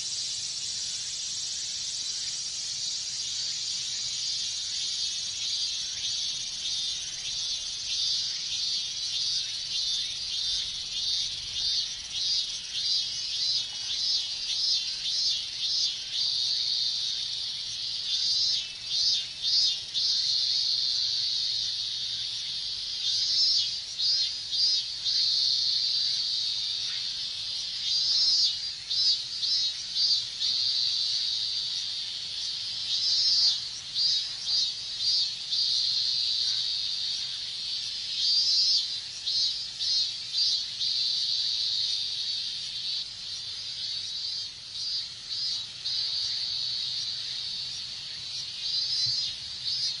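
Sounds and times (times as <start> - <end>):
cicadas singing: 0.0 - 50.0.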